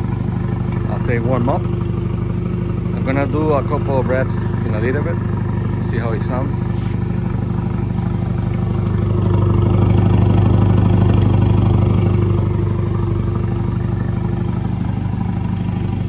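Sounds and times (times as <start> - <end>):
engine idling with throaty exhaust: 0.0 - 16.0.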